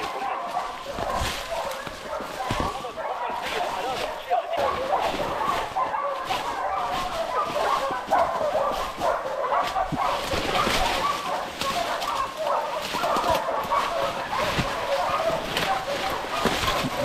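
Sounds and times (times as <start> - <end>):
dogs barking and baying: 0.0 - 17.0
leaves and branches rustling: 0.0 - 17.0.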